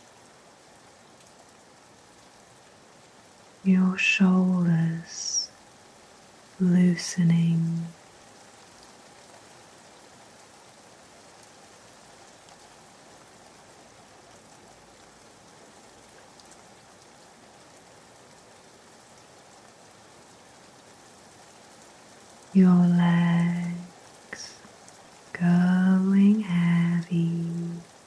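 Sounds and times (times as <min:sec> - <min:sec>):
soft rain falling: 0:00.0 - 0:28.0.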